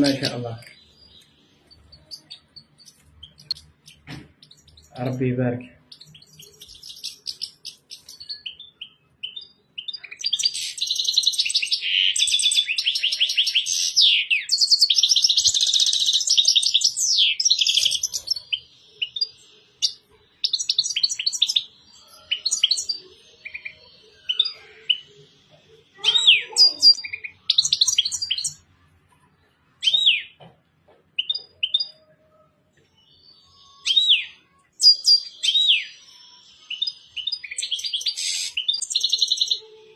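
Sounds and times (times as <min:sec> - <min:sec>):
bird chirps and call notes: 0:00.0 - 0:28.7, 0:31.1 - 0:39.9
finch twittering song: 0:00.0 - 0:28.7, 0:29.8 - 0:30.4, 0:31.1 - 0:32.2, 0:32.8 - 0:39.8.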